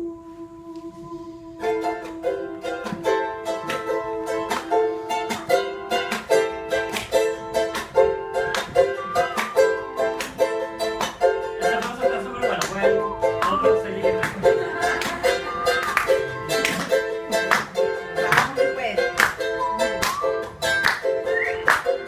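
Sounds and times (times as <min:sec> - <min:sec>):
ukulele strumming chords: 0:00.0 - 0:22.0.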